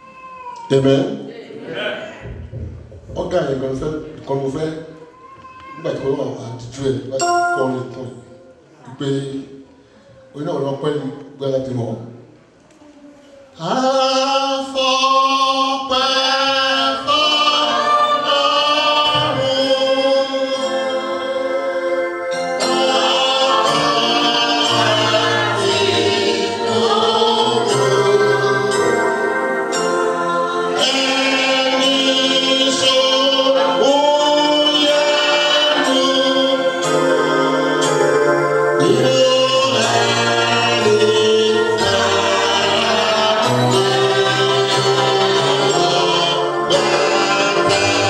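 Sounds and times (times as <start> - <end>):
congregation singing a hymn: 0.8 - 5.0, 13.6 - 48.0.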